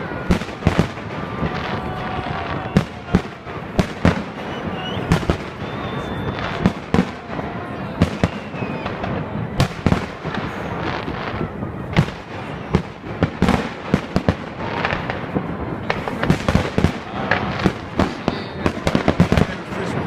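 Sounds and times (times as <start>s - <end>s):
firework bangs: 0.0s - 20.0s
firework crackle: 0.0s - 20.0s.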